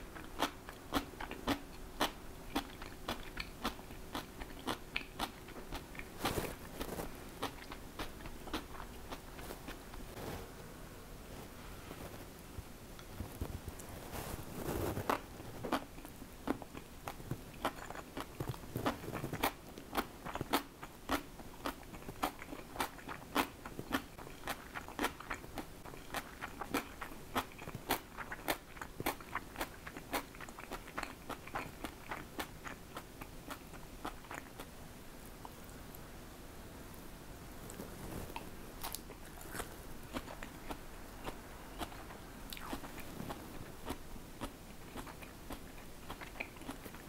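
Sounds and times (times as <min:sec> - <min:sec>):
person chewing crunchy food: 0:00.0 - 0:10.3, 0:13.4 - 0:34.7, 0:37.7 - 0:47.0.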